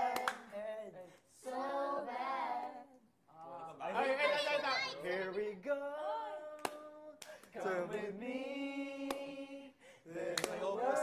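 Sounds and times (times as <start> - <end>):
voices singing a cappella: 0.0 - 11.0.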